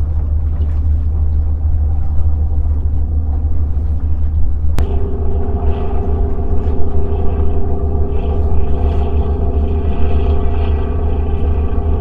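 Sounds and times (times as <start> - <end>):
steady multi-tone hum: 0.0 - 12.0
wind buffeting microphone: 0.0 - 12.0.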